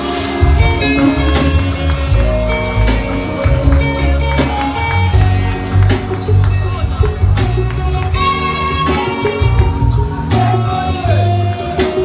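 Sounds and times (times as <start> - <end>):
party music with heavy bass: 0.0 - 12.0.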